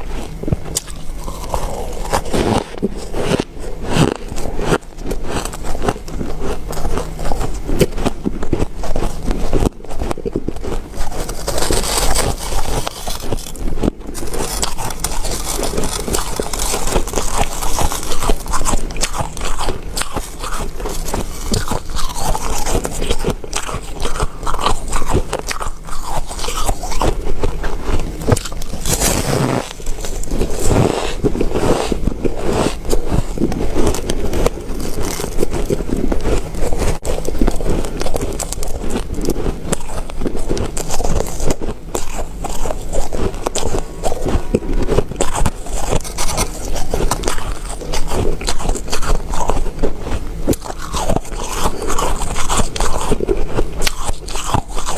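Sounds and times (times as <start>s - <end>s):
ice crunching between teeth: 0.0s - 54.9s.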